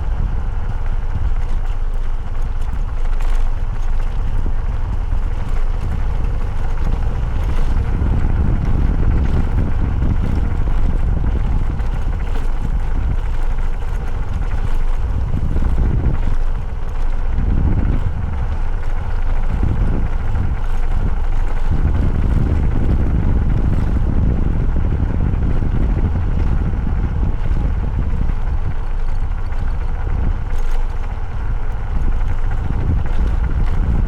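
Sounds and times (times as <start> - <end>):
motorcycle engine running: 0.0 - 34.0
road noise: 0.0 - 34.0
wind buffeting microphone: 0.0 - 34.0.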